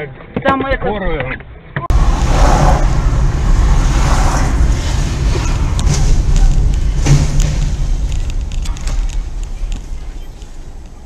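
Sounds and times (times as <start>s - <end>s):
car road and engine noise: 1.4s - 11.0s.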